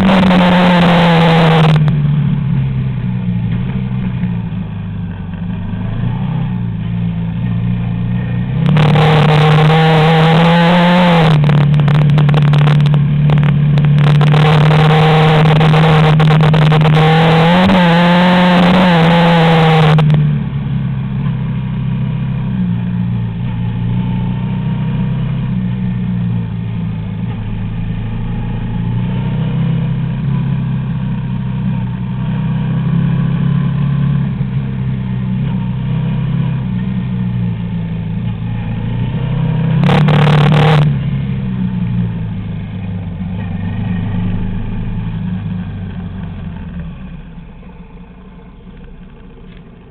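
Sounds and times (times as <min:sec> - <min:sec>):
quad bike engine running: 0:00.0 - 0:49.9.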